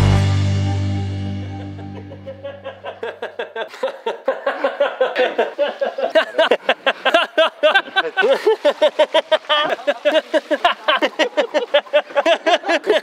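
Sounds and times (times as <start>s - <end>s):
rapid laughter: 1.9s - 13.0s.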